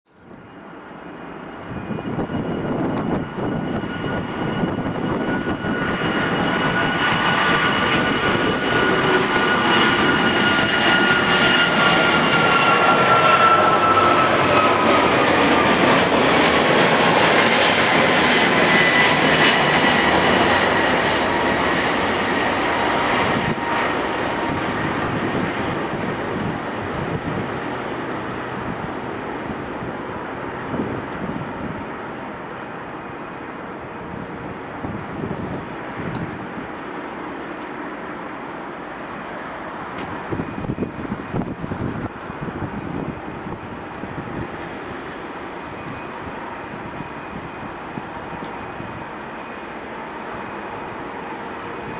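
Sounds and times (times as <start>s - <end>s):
jet engines at takeoff: 0.1s - 51.9s
jet whine dropping in pitch: 0.2s - 51.9s.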